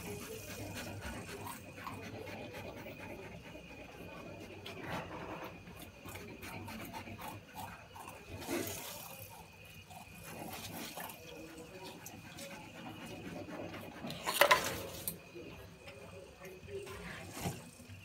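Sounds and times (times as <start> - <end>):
porcupines clicking and rustling: 0.0 - 18.0.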